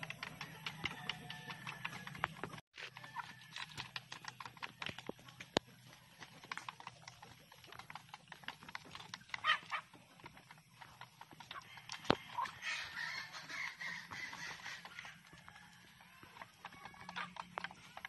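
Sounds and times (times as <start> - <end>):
beaks clicking on bamboo: 0.0 - 18.0.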